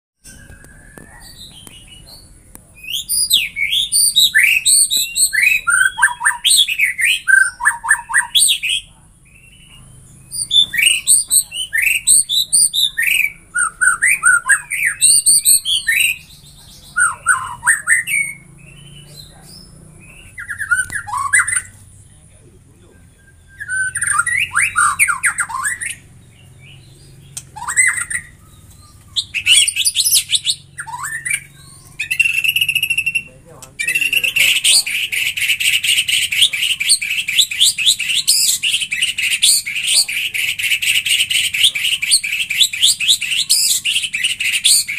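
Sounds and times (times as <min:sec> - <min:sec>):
bird singing rapid whistles: 0:00.2 - 0:21.8, 0:23.0 - 0:44.9.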